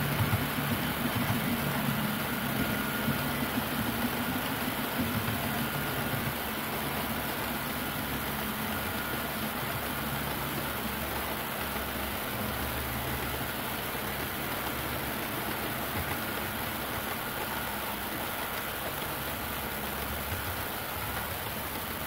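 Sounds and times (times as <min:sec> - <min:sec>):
low engine-like hum: 0:00.0 - 0:22.0
model train wheels rumbling: 0:00.0 - 0:22.0.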